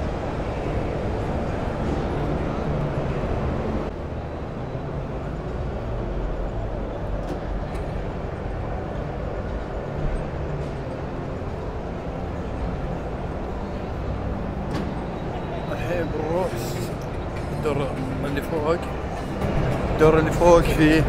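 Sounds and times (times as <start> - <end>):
indistinct crowd noise: 0.0 - 21.0.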